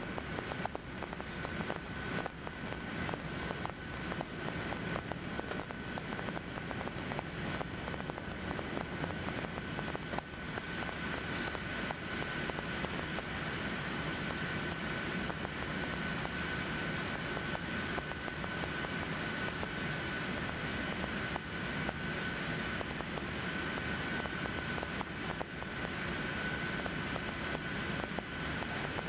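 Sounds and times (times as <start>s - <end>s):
jet engine cabin noise: 0.0s - 29.0s.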